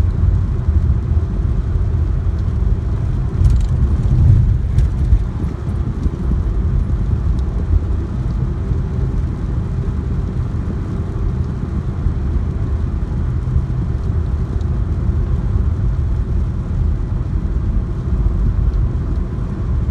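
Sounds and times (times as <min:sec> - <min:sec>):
rain falling steadily: 0:00.0 - 0:19.9.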